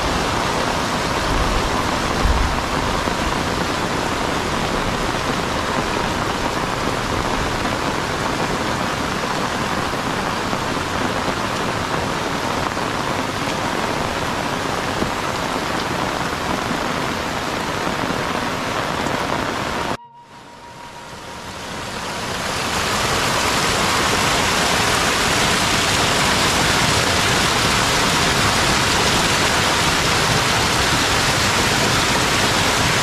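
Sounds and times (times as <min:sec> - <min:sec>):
heavy rain pouring: 0:00.0 - 0:20.0, 0:21.2 - 0:33.0.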